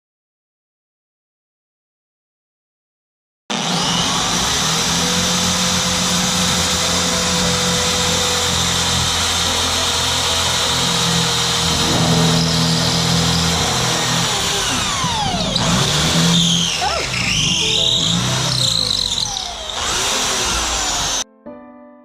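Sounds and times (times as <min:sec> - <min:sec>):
power drill running under load: 0:03.5 - 0:21.2.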